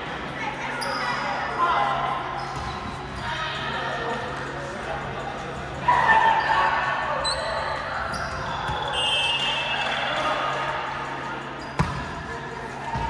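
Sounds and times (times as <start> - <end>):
players' voices in a gym: 0.0 - 13.0.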